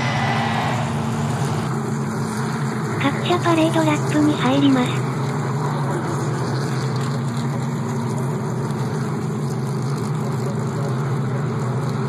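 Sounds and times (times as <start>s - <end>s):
car engines running at low speed: 0.0s - 12.0s.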